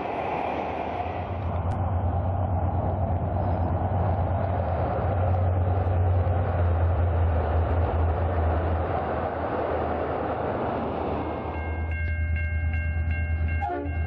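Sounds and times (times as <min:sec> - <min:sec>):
locomotive engine: 0:00.0 - 0:14.0
train rumbling by: 0:00.0 - 0:14.0.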